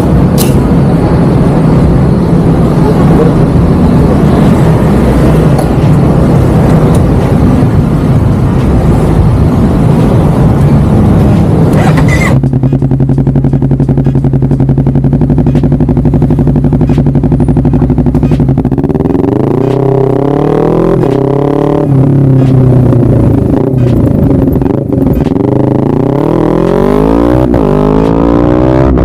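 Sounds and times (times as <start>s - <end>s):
motorcycle engine running rough: 0.0s - 29.0s.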